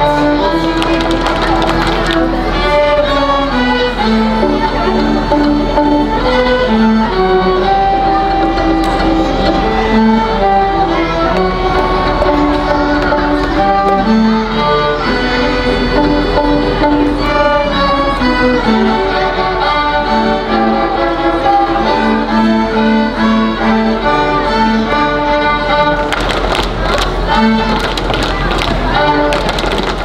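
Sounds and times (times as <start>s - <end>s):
string ensemble playing: 0.0s - 30.0s.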